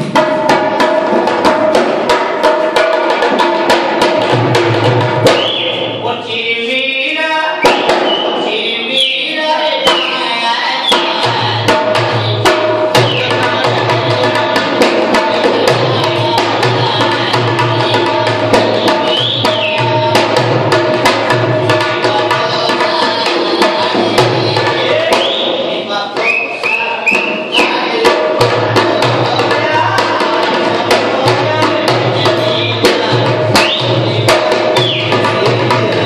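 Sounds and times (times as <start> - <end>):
hand drum fast rhythm: 0.0 - 6.0, 7.6 - 36.0.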